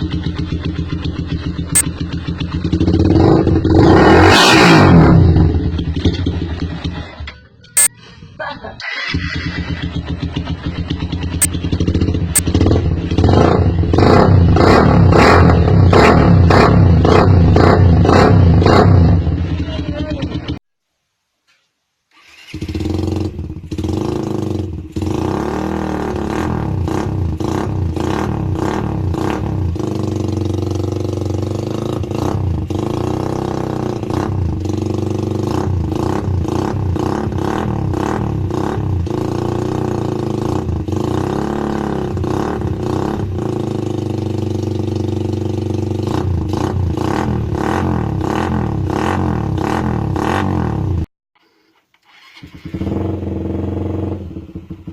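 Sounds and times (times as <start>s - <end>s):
motorcycle engine revving: 0.0s - 7.2s, 8.9s - 20.6s, 22.2s - 51.1s, 52.0s - 54.9s.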